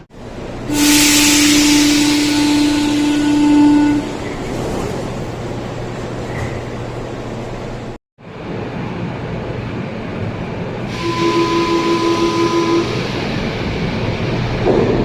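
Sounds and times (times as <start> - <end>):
train humming at platform: 0.0 - 15.0.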